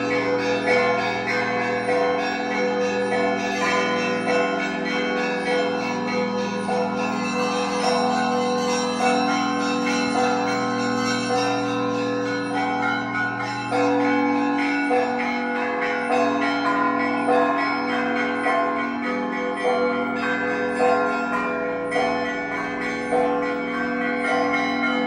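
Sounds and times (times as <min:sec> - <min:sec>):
hum of large bells: 0:00.0 - 0:25.0
small church bells ringing: 0:00.0 - 0:25.0.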